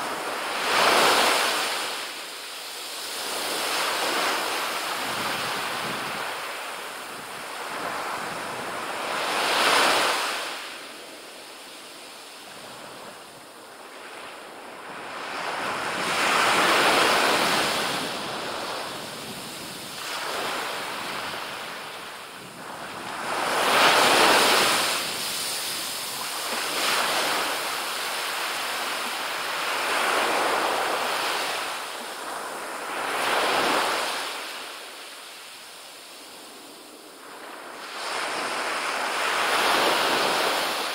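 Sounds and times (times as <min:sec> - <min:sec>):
small waves breaking on sand: 0:00.0 - 0:40.9.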